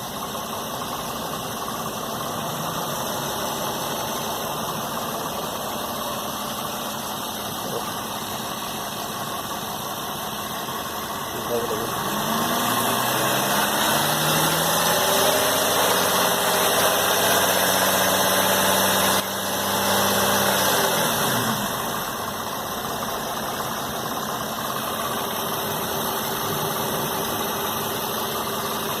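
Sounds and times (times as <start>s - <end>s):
car engine revving and idling: 0.0s - 29.0s
engine rattle: 0.0s - 29.0s.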